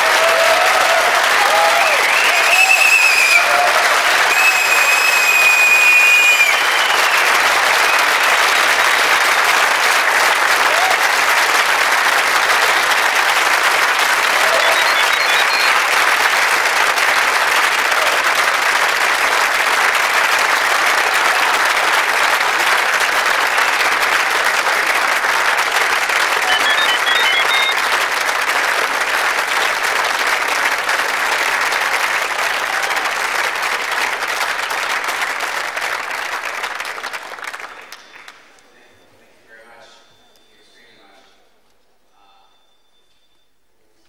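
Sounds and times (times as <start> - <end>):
audience applauding: 0.0 - 38.6.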